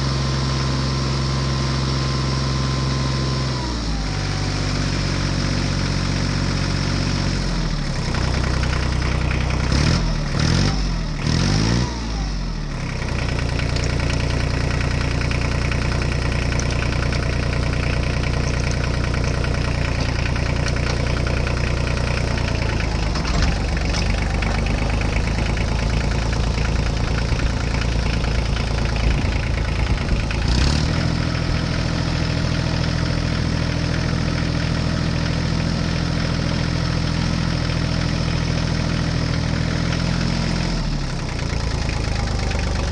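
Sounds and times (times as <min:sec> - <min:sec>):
engine running and revving: 0:00.0 - 0:42.9.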